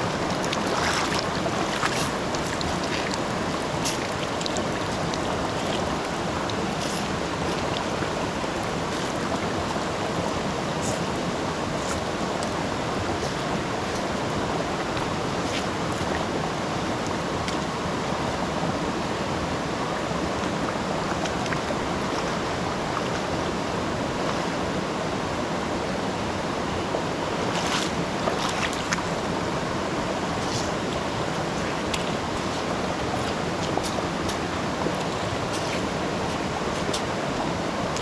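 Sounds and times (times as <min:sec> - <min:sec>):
water splashes: 0:00.0 - 0:18.8, 0:19.5 - 0:24.7, 0:26.8 - 0:38.0
river water rushing: 0:00.0 - 0:38.0.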